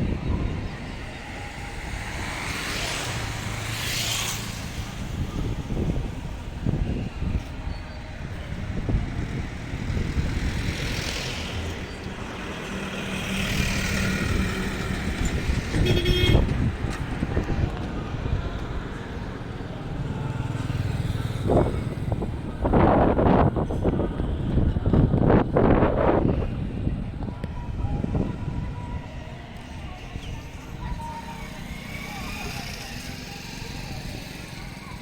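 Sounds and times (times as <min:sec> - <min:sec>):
train rumbling on bridge: 0:00.0 - 0:35.0.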